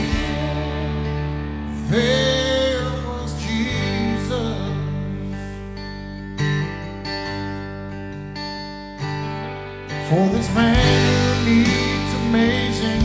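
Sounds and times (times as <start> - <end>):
bass guitar: 0.0 - 13.0
strummed acoustic guitar: 0.0 - 13.0.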